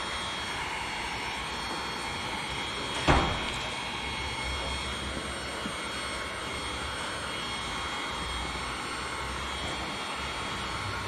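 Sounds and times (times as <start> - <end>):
heat gun fan blowing: 0.0 - 11.0.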